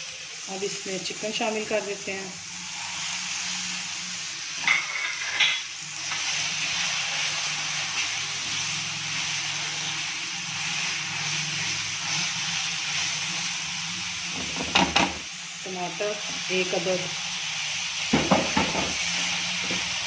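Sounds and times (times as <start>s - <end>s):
meat and onions sizzling in oil: 0.0s - 20.0s.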